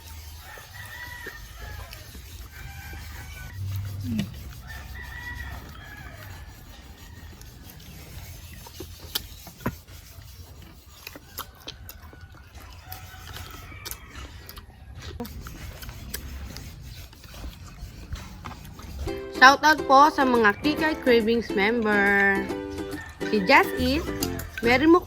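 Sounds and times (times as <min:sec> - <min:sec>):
chewing crispy pork skin: 0:00.0 - 0:19.4, 0:21.6 - 0:25.0.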